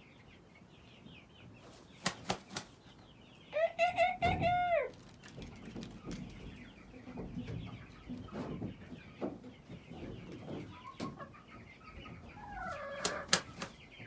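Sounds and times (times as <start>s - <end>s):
chickens clucking: 0.1s - 14.0s.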